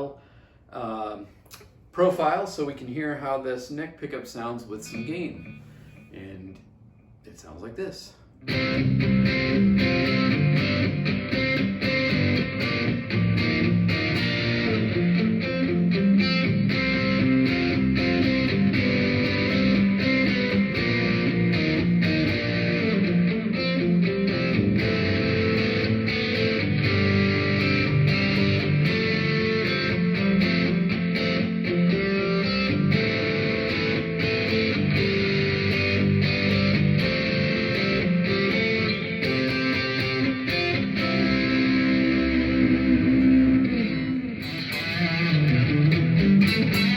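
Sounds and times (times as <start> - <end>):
overdriven electric guitar riffs: 8.4 - 46.9.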